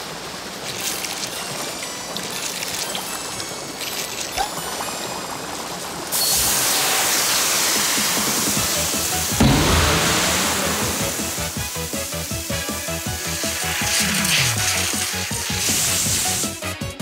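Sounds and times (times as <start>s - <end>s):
flowing water: 0.0s - 16.8s
gushing water: 0.0s - 17.0s.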